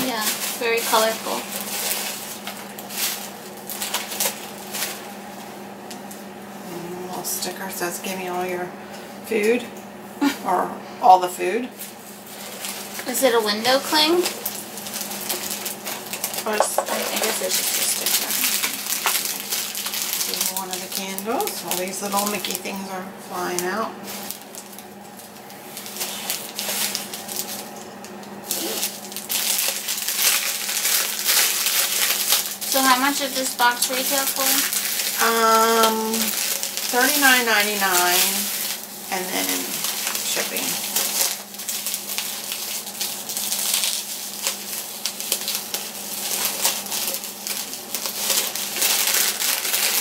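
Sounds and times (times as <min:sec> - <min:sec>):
cellophane crinkling: 0:00.0 - 0:06.2, 0:11.8 - 0:50.0.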